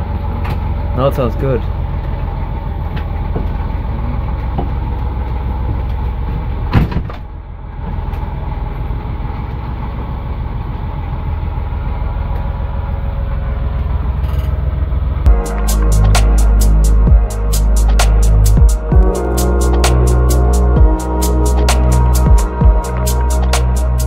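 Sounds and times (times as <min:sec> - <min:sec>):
boat engine low rumble: 0:00.0 - 0:24.0.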